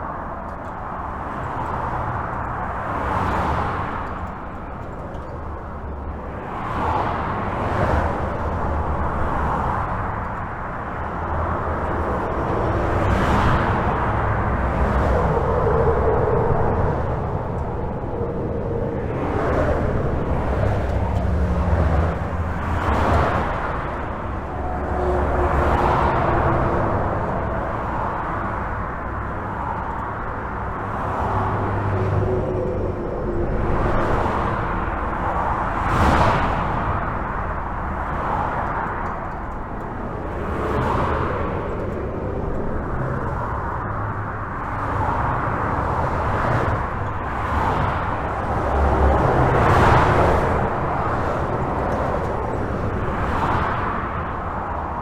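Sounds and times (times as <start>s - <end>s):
highway traffic rumbling: 0.0s - 55.0s
vehicles passing: 0.0s - 55.0s.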